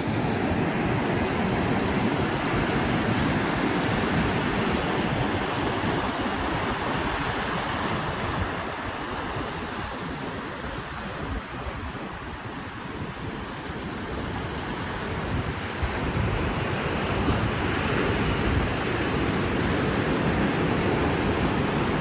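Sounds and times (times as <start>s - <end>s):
ocean waves breaking on rocks: 0.0s - 22.0s.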